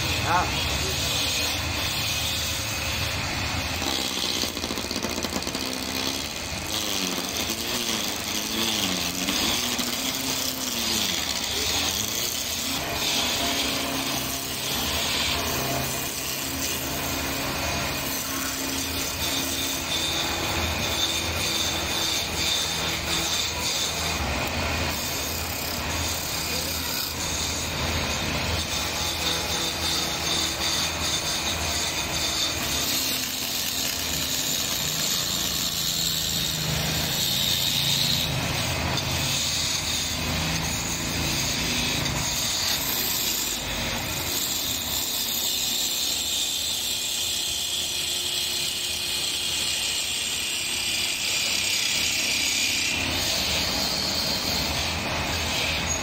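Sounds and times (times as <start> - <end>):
tool scraping spinning wood: 0.0 - 56.0.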